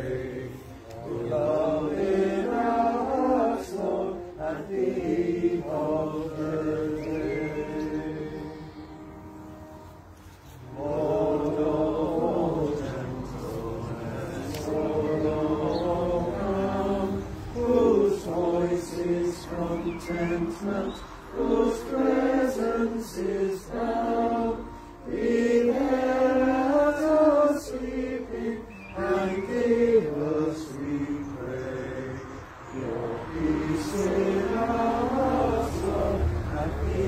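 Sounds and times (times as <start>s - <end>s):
congregation singing a hymn: 0.0s - 37.0s.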